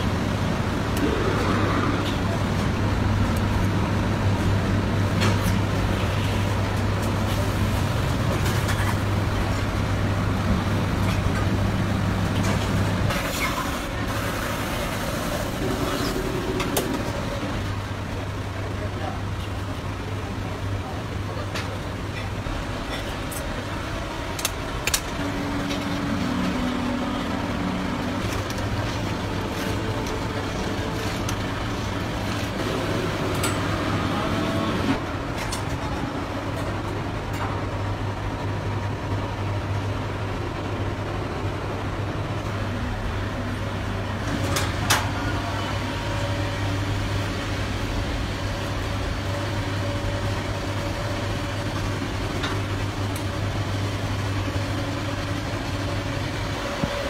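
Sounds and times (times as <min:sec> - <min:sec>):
kitchen machinery humming: 0:00.0 - 0:57.0.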